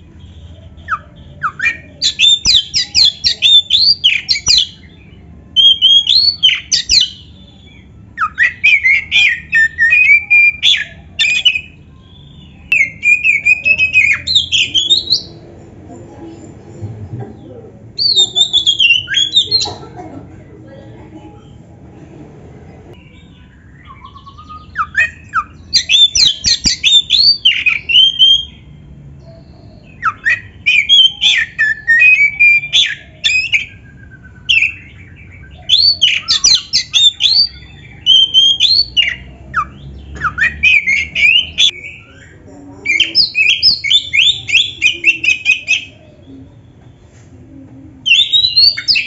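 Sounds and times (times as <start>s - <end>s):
songbird singing whistles and trills: 0.1s - 15.4s, 18.0s - 19.7s, 23.0s - 47.1s, 48.0s - 49.0s.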